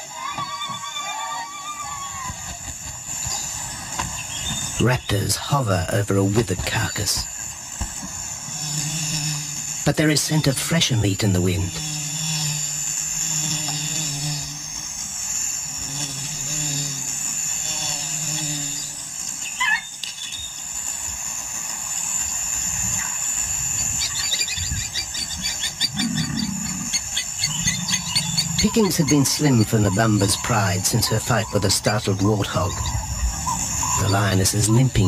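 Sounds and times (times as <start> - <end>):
high insect drone: 0.0 - 35.0
fast pulsing chirps: 1.8 - 35.0.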